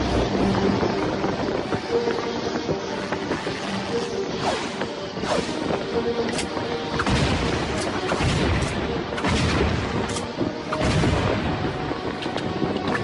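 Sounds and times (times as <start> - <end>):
faint cartoon music: 0.0 - 13.0
low rumble: 0.0 - 13.0.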